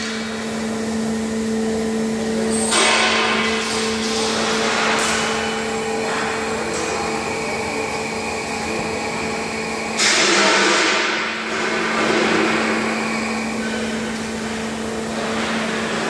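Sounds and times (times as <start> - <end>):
hydraulic motor and pump hum: 0.0 - 16.0.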